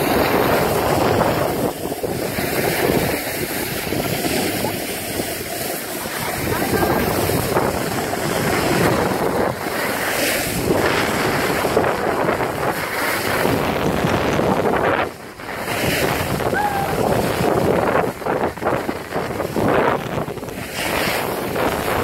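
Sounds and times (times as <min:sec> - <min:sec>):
skis sliding over snow: 0:00.0 - 0:22.0
wind buffeting microphone: 0:00.0 - 0:22.0.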